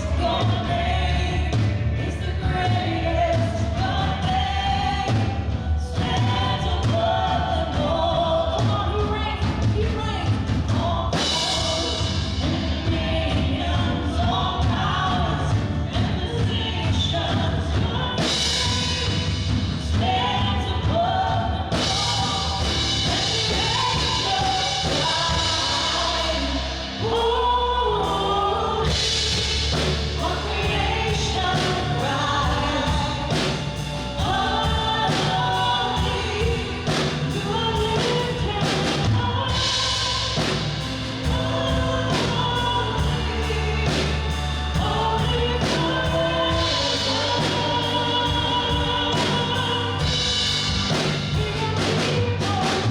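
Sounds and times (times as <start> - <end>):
congregation singing: 0.0 - 52.9
drums: 0.0 - 52.9
worship band playing: 0.0 - 52.9.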